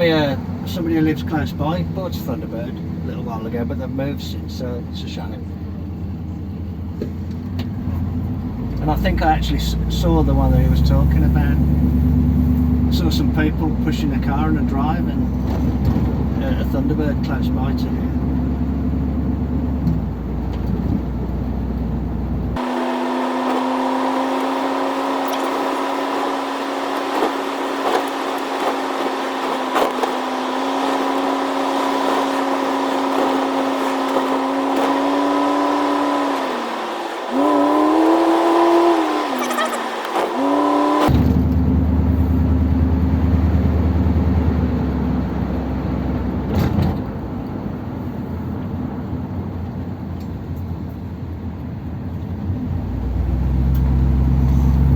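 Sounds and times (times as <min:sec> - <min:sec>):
car engine drone: 0:00.0 - 0:54.9
road rumble: 0:00.0 - 0:54.9.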